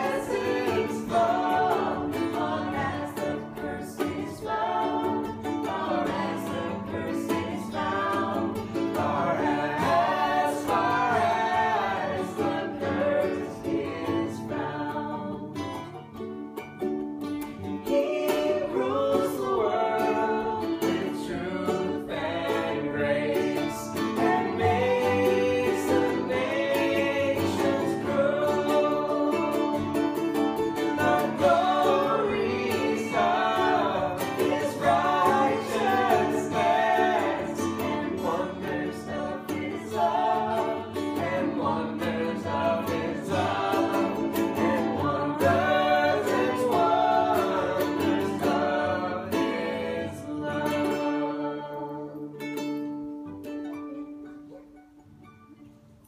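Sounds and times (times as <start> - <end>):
group singing: 0.0 - 16.8, 17.5 - 53.0
ukulele and guitar strumming: 0.0 - 56.0.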